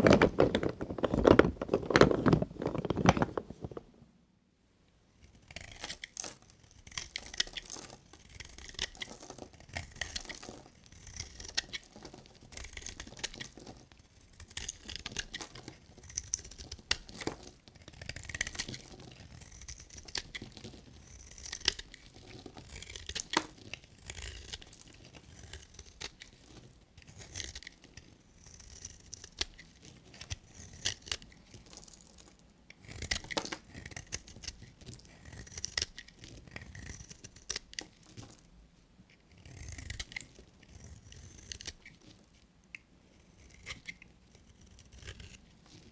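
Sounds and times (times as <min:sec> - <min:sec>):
knife cutting dry soap: 0:05.3 - 0:38.5, 0:39.1 - 0:45.9.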